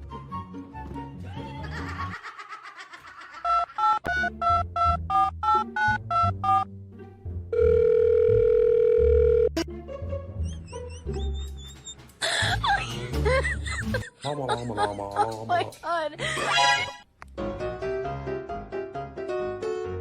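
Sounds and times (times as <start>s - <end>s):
background music: 0.0s - 2.5s, 3.4s - 20.0s.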